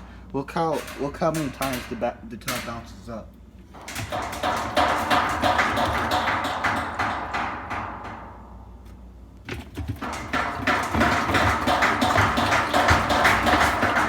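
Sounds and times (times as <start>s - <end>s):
washer tub rattling and knocking: 0.6s - 3.1s, 3.7s - 8.4s, 9.4s - 14.0s.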